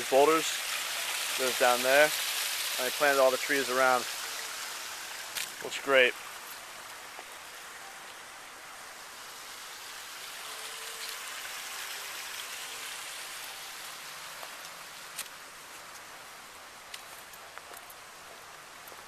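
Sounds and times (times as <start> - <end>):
waterfall splashing over boulders: 0.0 - 19.0.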